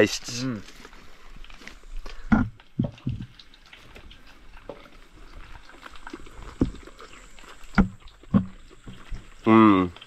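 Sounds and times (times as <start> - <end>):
person chewing food: 0.7 - 10.0.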